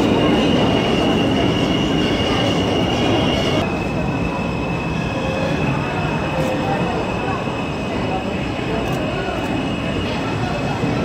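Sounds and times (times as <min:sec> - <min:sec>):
high-pitched train whine: 0:00.0 - 0:11.0
subway train din: 0:00.0 - 0:11.0.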